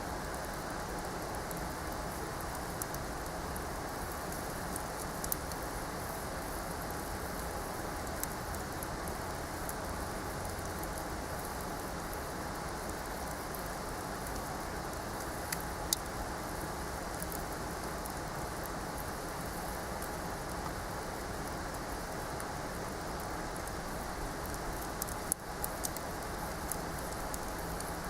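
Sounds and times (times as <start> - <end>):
wood fire crackling: 0.1 - 28.0.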